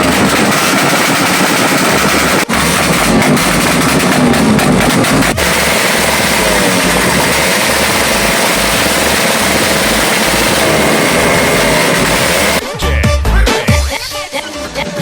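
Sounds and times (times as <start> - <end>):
loud car engine running: 0.0 - 12.6.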